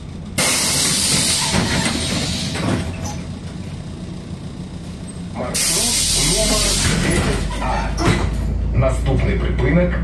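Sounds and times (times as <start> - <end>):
bus engine running: 0.0 - 10.0.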